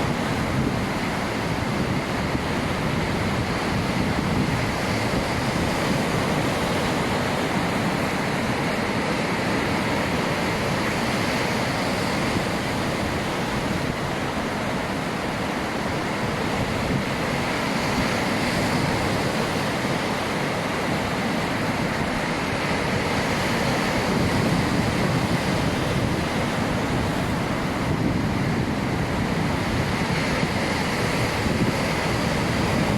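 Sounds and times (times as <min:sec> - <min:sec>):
sea waves washing on shore: 0:00.0 - 0:32.9.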